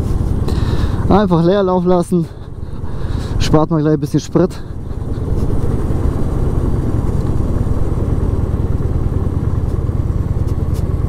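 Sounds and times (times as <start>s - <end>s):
motorcycle engine idling: 0.0s - 11.0s
wind and road noise: 0.0s - 11.0s.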